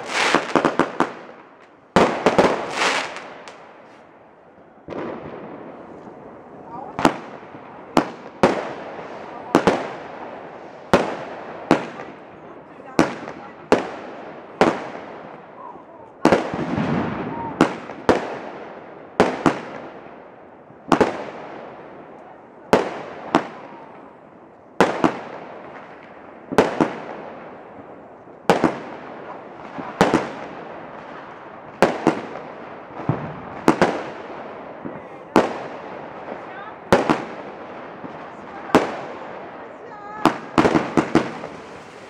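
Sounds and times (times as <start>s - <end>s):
fireworks bangs with echo: 0.0s - 42.0s.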